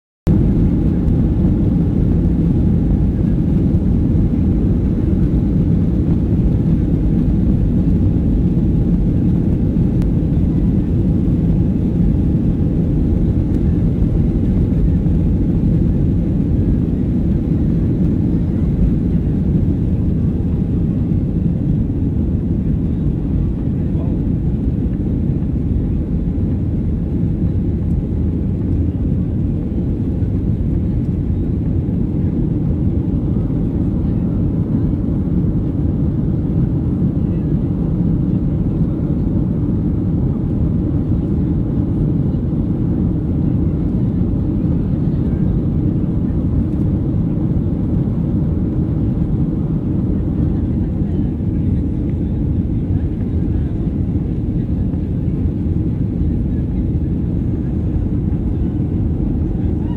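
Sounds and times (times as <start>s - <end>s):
jet engines at takeoff thrust: 0.3s - 59.9s.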